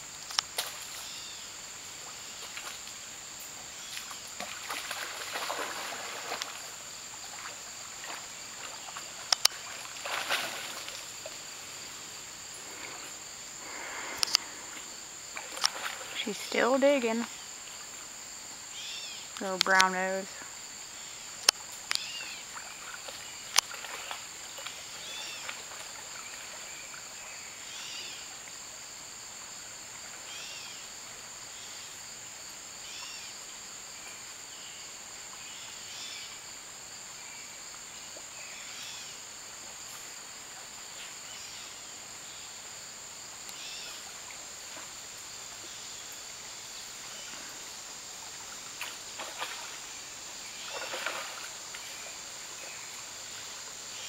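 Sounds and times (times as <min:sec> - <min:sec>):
faint short insect calls: 0:00.0 - 0:54.0
insect chorus: 0:00.0 - 0:54.0.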